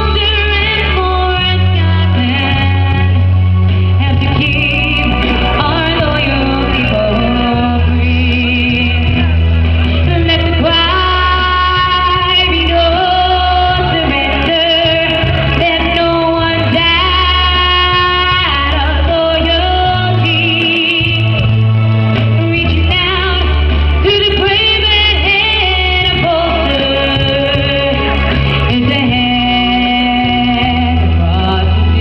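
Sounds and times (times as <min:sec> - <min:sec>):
band with strong bass: 0:00.0 - 0:32.0
woman singing: 0:00.0 - 0:32.0.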